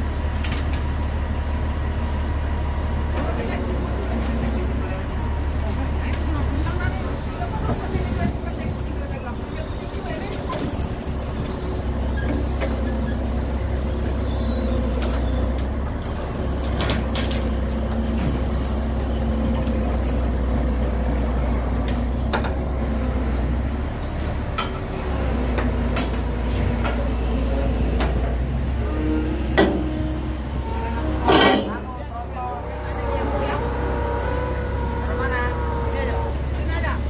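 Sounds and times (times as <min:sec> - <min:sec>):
diesel truck engine droning: 0:00.0 - 0:37.0.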